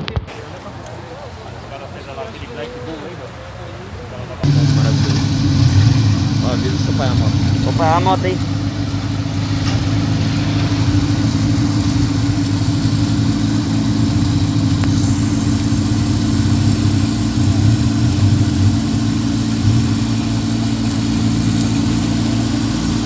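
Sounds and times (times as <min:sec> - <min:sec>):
vehicle engine idling: 0:04.4 - 0:23.0.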